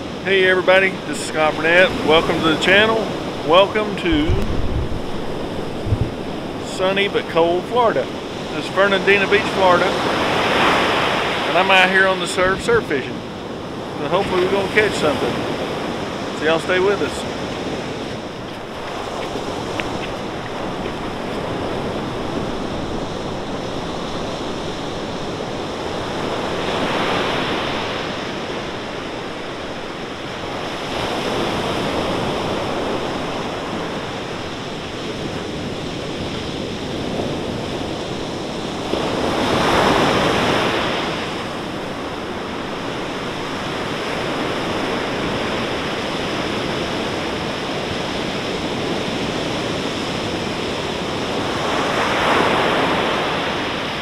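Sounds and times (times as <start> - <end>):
ocean waves crashing on beach: 0.0 - 54.0.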